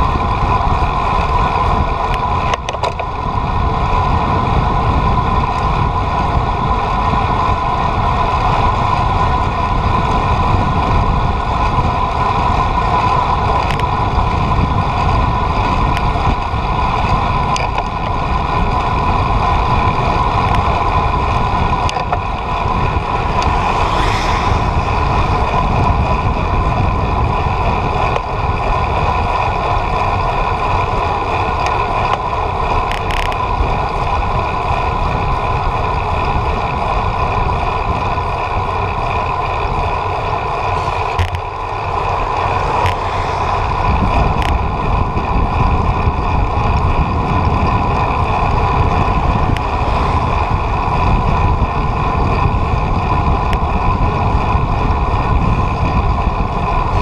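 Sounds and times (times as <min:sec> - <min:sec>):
vehicle engine drone and whine: 0:00.0 - 0:57.0
wind rumble on microphone: 0:00.0 - 0:57.0.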